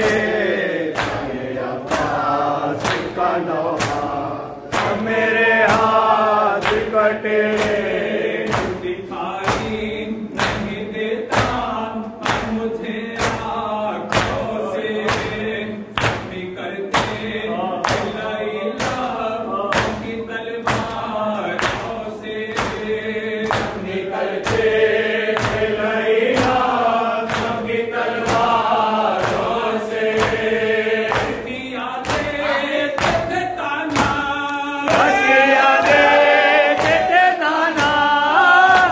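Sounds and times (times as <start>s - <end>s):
men chanting together: 0.0s - 38.9s
person reciting into microphone: 0.0s - 38.9s
rhythmic chest slapping: 0.0s - 38.9s.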